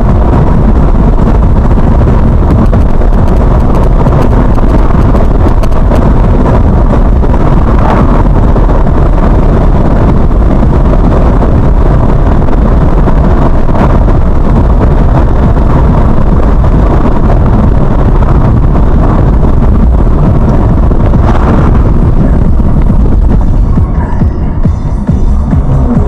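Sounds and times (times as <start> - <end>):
car tyres and engine rumbling: 0.0 - 26.0
wind buffeting microphone: 0.0 - 26.0.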